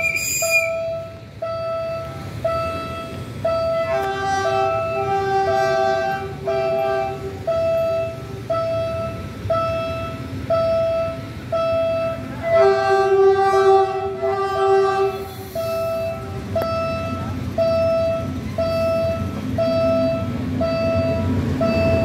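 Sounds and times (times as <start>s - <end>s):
steady repeating beep: 0.0s - 5.6s, 6.6s - 12.4s, 15.4s - 22.0s
train horn blasts: 0.0s - 22.0s.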